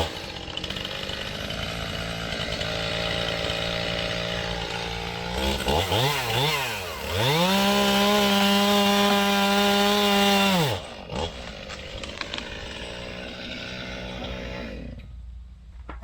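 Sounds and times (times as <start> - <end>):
chainsaw revving: 0.0 - 15.1.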